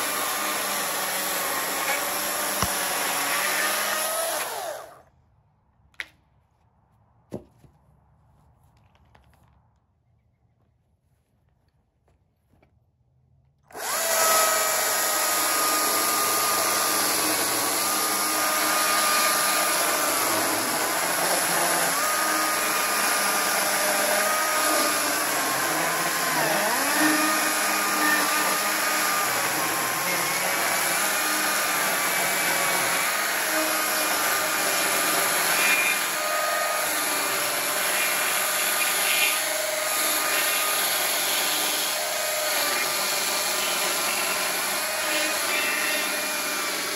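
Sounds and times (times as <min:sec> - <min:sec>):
chainsaw cutting log: 0:00.0 - 0:05.0, 0:13.7 - 0:46.9.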